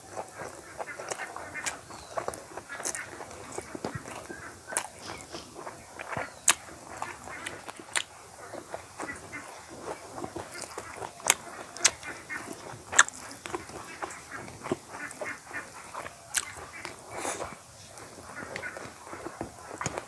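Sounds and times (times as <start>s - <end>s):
chewing with wet lip smacks: 0.0s - 20.0s
soft squelching: 0.1s - 20.0s.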